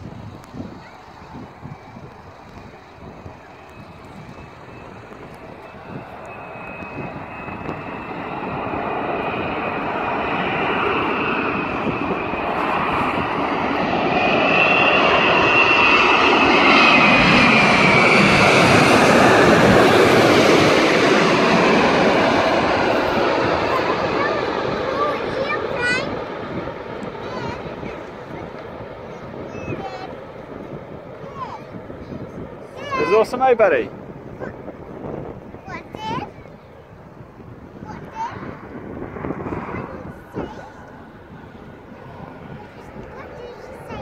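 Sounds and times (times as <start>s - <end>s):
jet airliner flying overhead: 0.0s - 44.0s.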